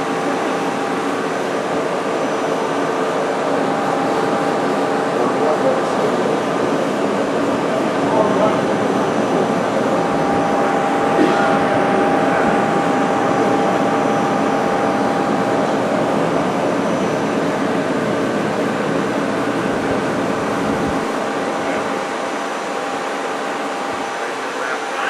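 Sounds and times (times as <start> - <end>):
lathe whirring and whining: 0.0 - 25.0.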